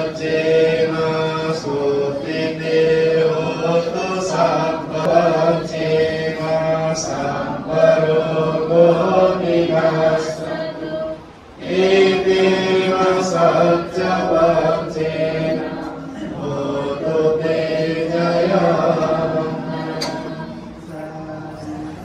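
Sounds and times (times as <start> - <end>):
group chanting in unison: 0.0 - 22.0.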